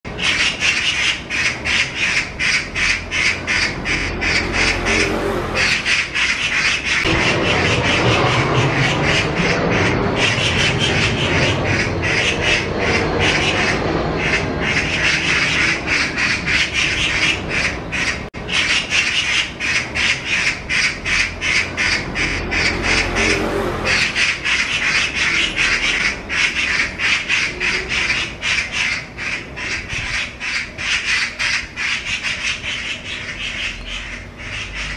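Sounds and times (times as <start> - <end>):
magpies chattering harshly: 0.1 - 34.9.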